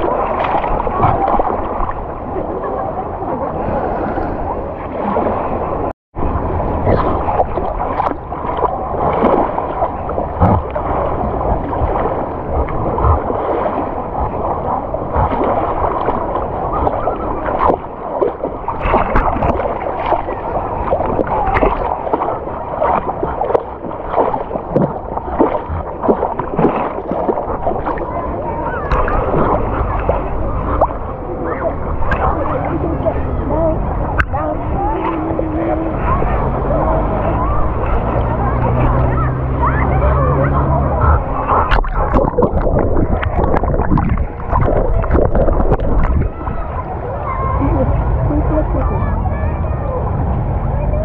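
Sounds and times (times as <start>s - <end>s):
water sloshing and splashing: 0.0s - 51.0s.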